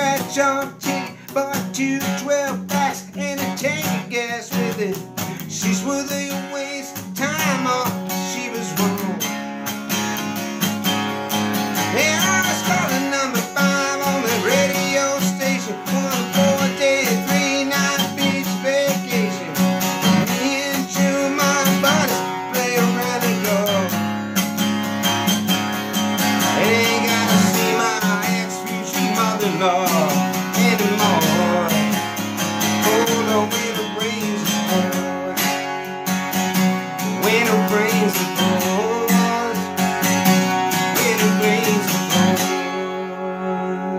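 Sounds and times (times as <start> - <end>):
acoustic guitar strumming country song: 0.0 - 43.9.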